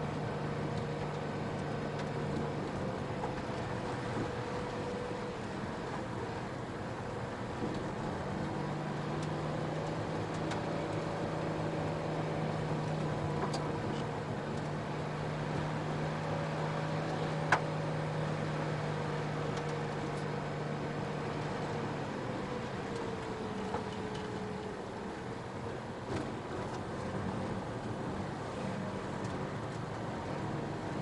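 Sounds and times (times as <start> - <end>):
car engine running: 0.0 - 31.0
tyre noise on rough road: 0.0 - 31.0.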